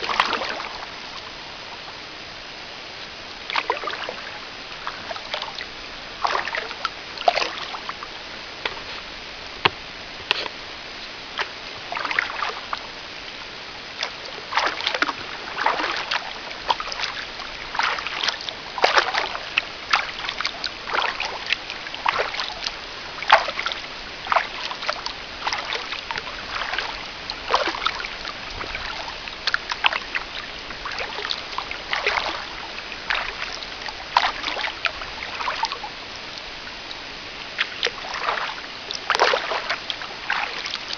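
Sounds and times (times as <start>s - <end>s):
paddle splashing in water: 0.0s - 2.1s, 3.0s - 40.9s.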